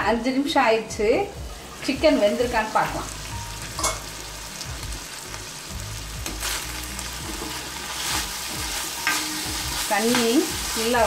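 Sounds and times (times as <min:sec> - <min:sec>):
chicken sizzling in a pan: 0:01.5 - 0:11.0.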